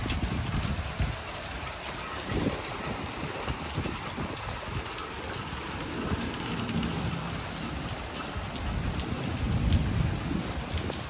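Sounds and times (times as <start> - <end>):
rain on ground and roof: 0.0 - 11.0.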